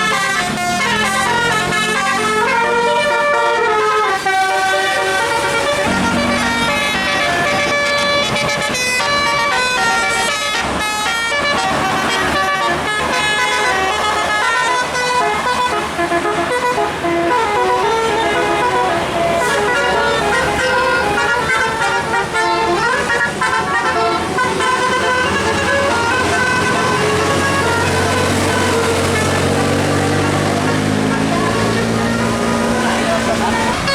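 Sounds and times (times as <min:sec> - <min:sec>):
musical air horns playing melodies: 0:00.0 - 0:33.9.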